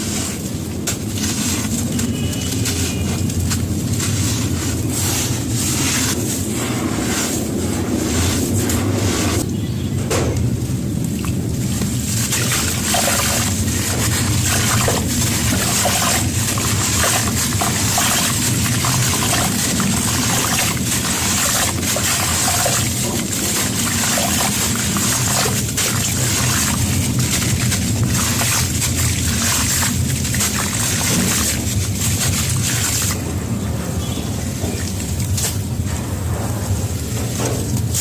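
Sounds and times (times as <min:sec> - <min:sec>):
cement crackling in water: 0:00.0 - 0:09.5, 0:10.2 - 0:38.0
water trickling and sloshing: 0:00.0 - 0:38.0.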